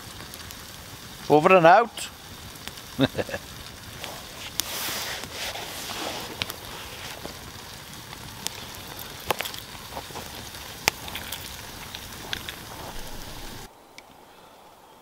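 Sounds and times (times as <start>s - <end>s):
campfire crackling and popping: 0.0s - 14.9s.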